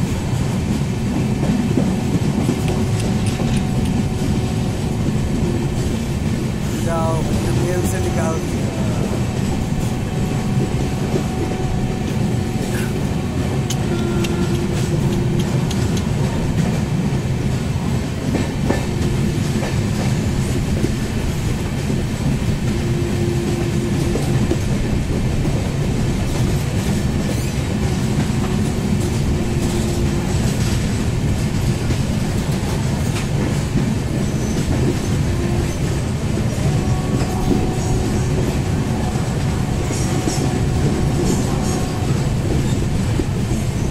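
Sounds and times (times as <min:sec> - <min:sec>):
train wheels clacking on rails: 0:00.0 - 0:43.9.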